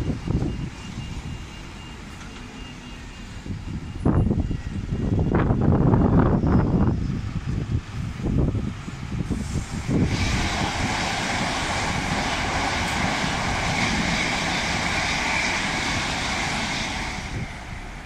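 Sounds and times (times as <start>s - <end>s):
trains passing at speed: 0.0s - 18.0s.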